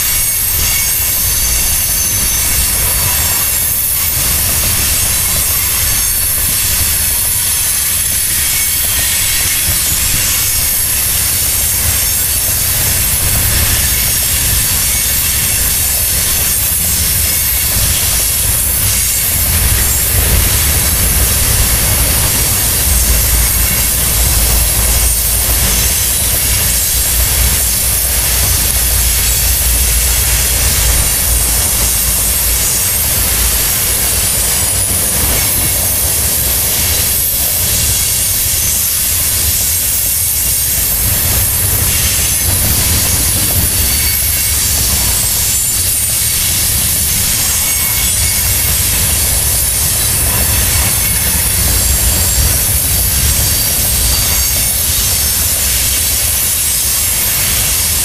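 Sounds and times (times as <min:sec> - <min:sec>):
steel wheels rumbling on rail: 0:00.0 - 0:58.0
wheel squeal and hiss: 0:00.0 - 0:58.0.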